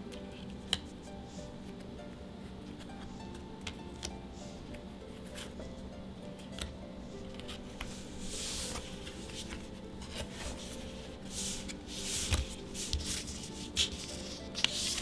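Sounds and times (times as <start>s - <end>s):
cards rustling and sliding: 0.0s - 15.0s.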